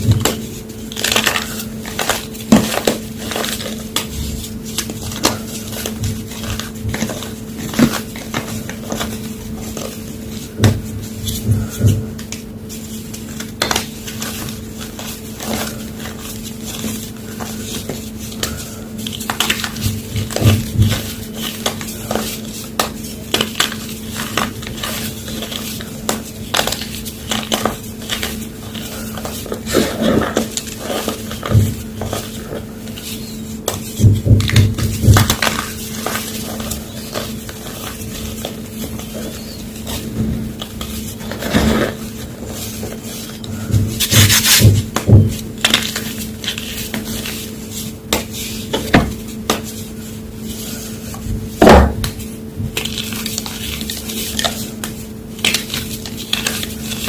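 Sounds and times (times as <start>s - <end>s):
chalk block crunching: 0.0s - 57.0s.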